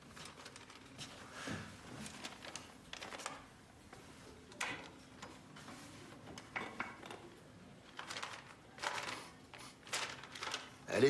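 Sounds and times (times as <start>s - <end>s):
paper rustling: 0.0s - 7.2s, 7.8s - 11.0s.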